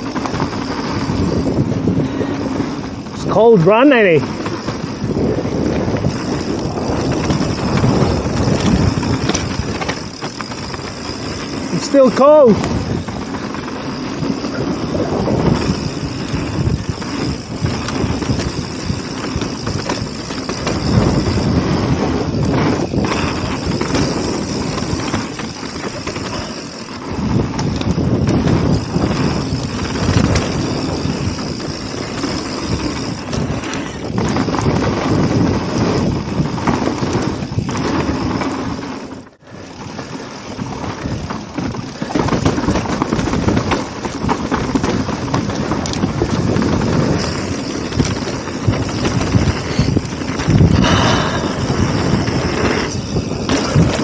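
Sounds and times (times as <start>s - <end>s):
bike rattling over bumps: 0.0s - 54.0s
bike tyres rolling and skidding on dirt: 0.0s - 54.0s
wind on microphone: 0.0s - 54.0s.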